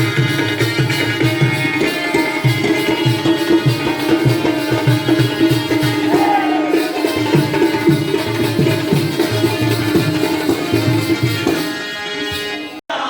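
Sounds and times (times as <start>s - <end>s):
hand drum beating: 0.0s - 11.7s
instrumental melody: 0.0s - 12.8s.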